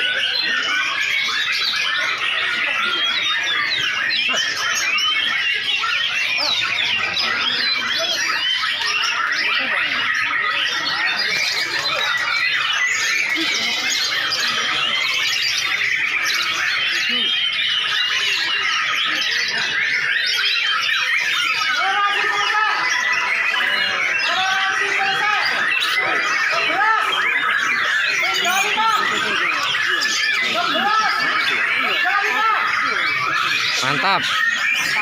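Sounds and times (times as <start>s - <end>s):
birds singing whistles and chatter: 0.0s - 35.0s.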